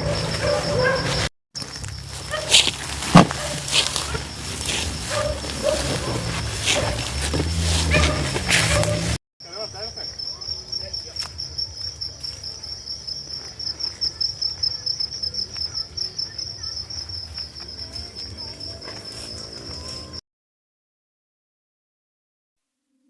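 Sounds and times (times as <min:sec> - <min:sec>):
crickets chirping: 0:00.0 - 0:20.2.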